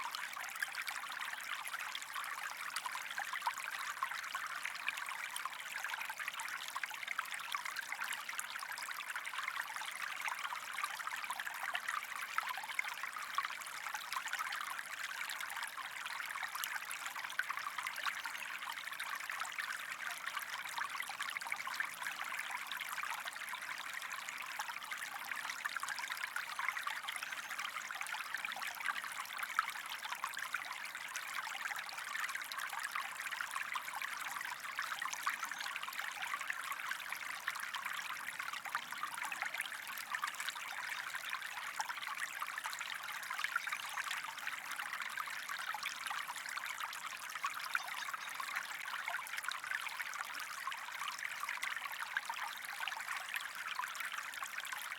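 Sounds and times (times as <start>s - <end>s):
stream water trickling: 0.0s - 54.9s.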